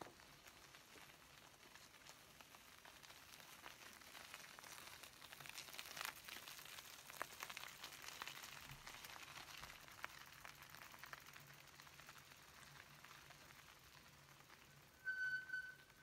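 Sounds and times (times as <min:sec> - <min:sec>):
bicycle tyres crunching on gravel: 0:00.0 - 0:16.0.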